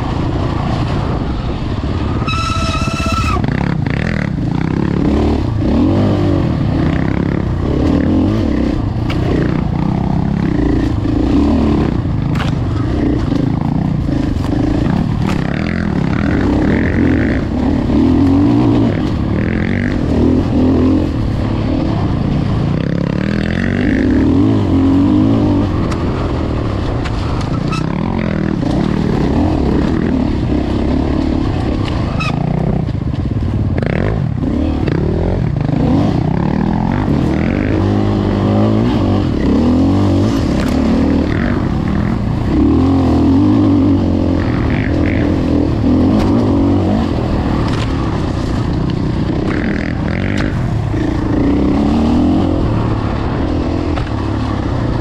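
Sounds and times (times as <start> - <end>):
dirt bike engine revving: 0.0 - 32.9, 33.7 - 55.0
bike rattling over rough ground: 0.0 - 55.0.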